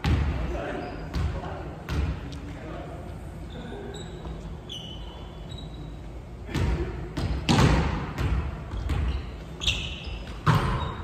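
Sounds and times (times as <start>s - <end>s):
sneaker squeaks: 0.5s - 2.4s, 3.4s - 11.0s.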